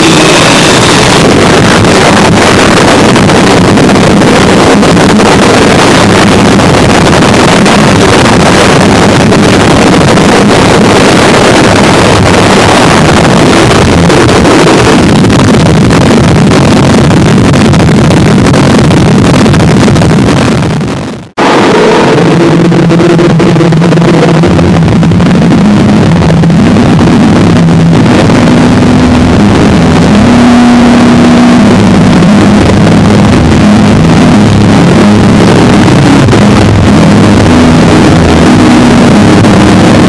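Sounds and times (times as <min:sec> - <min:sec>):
harsh distorted noise music: 0:00.0 - 0:40.0.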